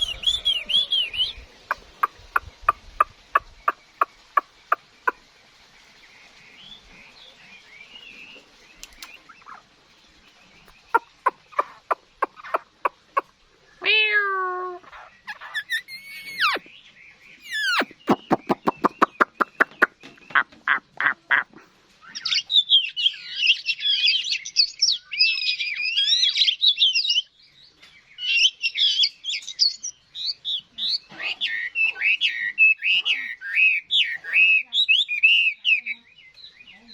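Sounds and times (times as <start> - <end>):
songbird singing: 0.0 - 5.3, 6.0 - 26.2, 28.5 - 36.9.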